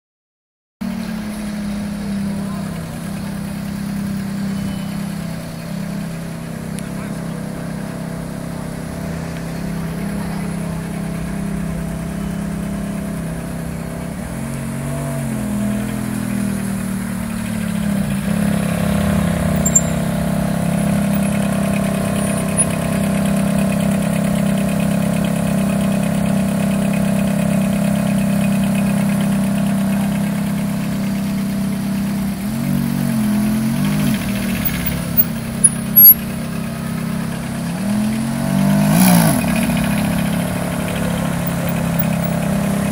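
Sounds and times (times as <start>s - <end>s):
car engine idling: 0.8s - 42.9s.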